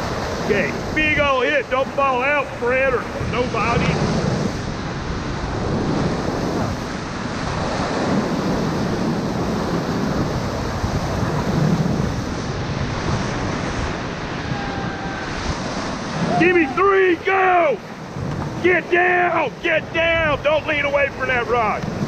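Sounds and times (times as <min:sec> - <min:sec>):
whitewater rushing: 0:00.0 - 0:22.0.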